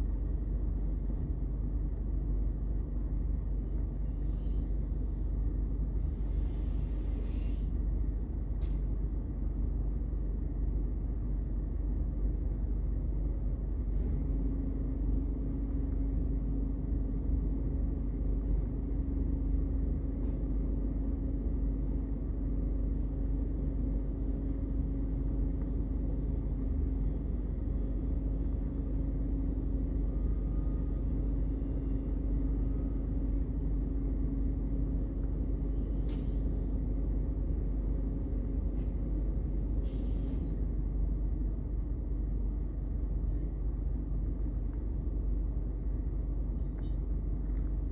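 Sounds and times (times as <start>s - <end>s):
hydraulics humming: 0.0s - 47.9s.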